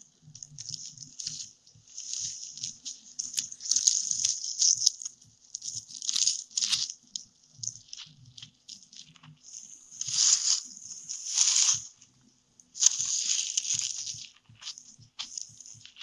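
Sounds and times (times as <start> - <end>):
dry grass rustling on microphone: 0.0 - 16.0.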